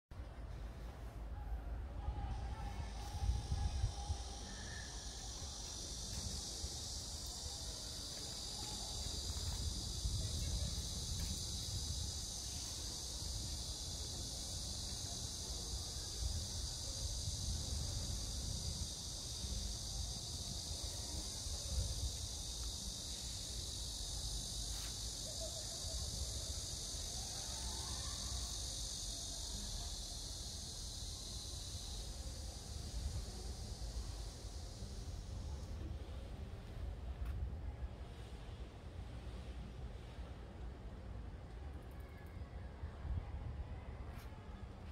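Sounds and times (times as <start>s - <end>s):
insects chorus: 1.4s - 44.9s.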